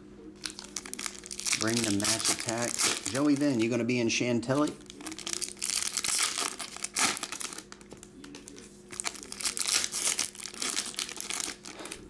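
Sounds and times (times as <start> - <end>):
foil card pack crinkling: 0.4 - 12.0.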